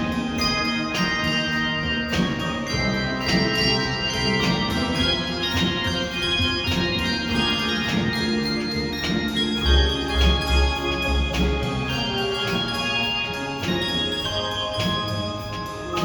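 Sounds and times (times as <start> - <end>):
deep bass bell notes: 0.0 - 16.0
handbell choir playing: 0.0 - 16.0.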